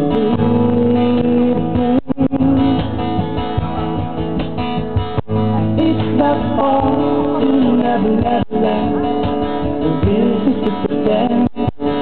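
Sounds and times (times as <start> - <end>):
person singing: 0.0 - 3.2, 5.5 - 12.0
acoustic guitar: 0.0 - 12.0.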